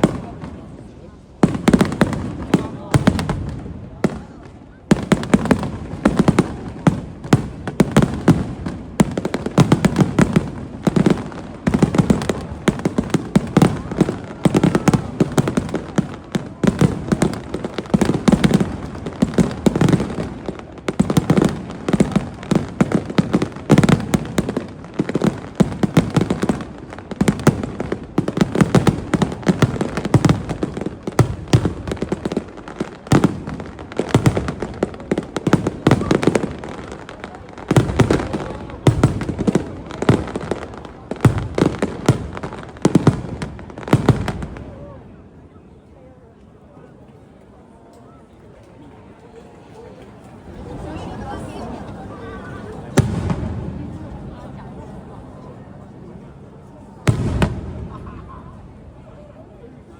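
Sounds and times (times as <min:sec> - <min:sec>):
aerial fireworks bursting: 0:00.0 - 0:44.9, 0:52.8 - 0:54.5, 0:57.0 - 0:58.9.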